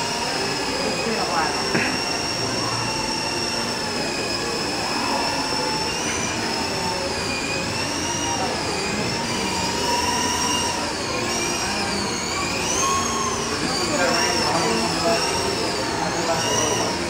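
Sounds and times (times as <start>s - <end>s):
steady background noise: 0.0s - 17.0s
toy helicopter motor whine: 0.0s - 17.0s.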